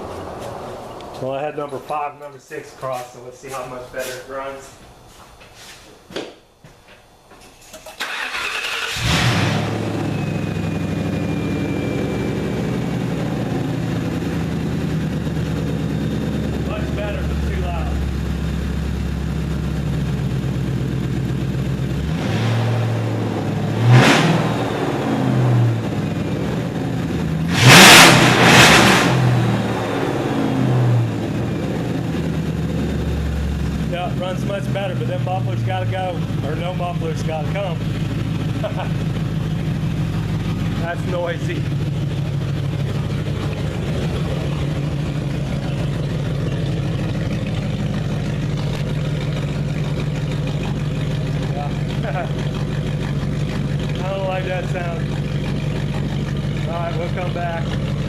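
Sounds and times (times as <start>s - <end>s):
car engine revving: 0.0s - 2.1s, 8.0s - 58.0s.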